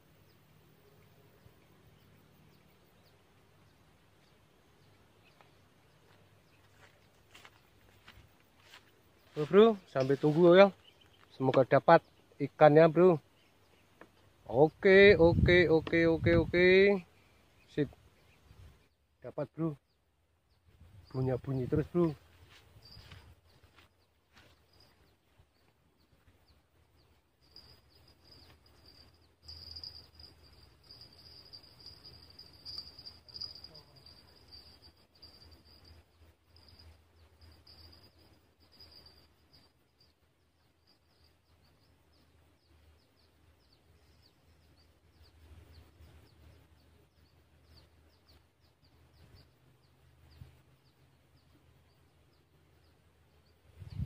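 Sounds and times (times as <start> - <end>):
high insect trill: 0.8 - 19.8, 20.6 - 54.0.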